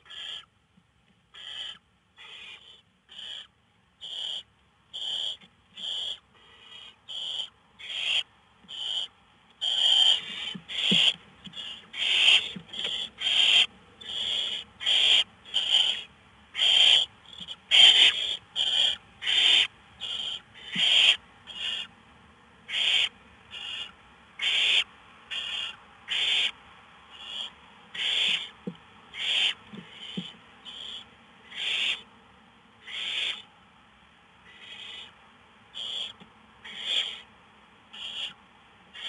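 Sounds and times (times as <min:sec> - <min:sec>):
owl chicks hissing: 0:00.0 - 0:00.5, 0:01.3 - 0:21.9, 0:22.7 - 0:32.0, 0:32.8 - 0:33.5, 0:34.5 - 0:35.1, 0:35.8 - 0:37.3, 0:37.9 - 0:38.4.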